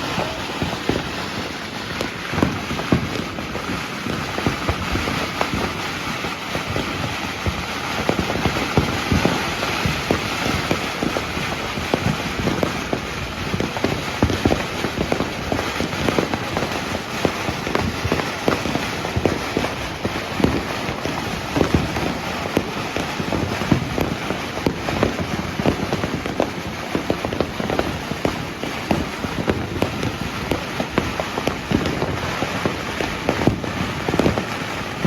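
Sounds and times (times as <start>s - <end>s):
fireworks bangs and crackles: 0.0s - 35.0s
steady hissing rumble: 0.0s - 35.0s.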